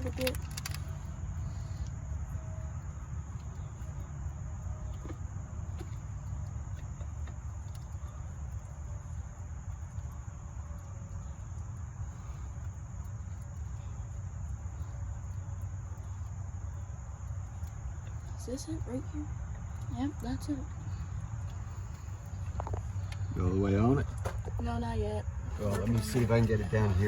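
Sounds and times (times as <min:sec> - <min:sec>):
low steady rumble: 0:00.0 - 0:27.0.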